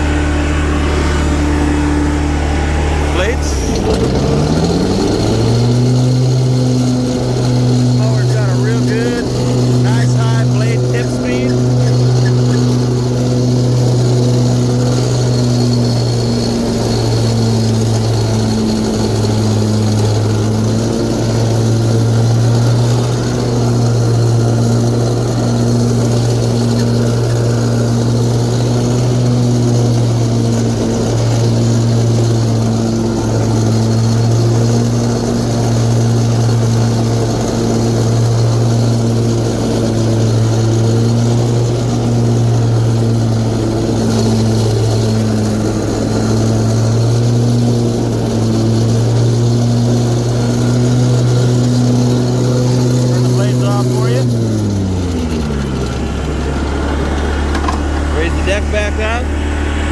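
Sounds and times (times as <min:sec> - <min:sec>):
lawn mower engine droning: 0:00.0 - 0:59.9.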